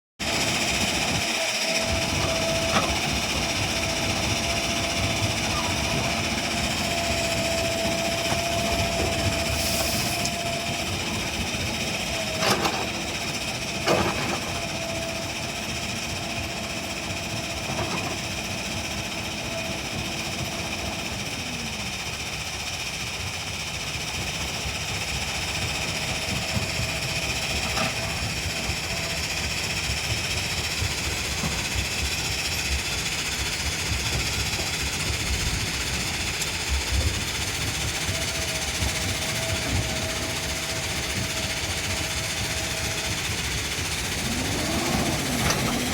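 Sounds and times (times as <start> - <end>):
diesel engine running with whine: 0.2 - 45.9.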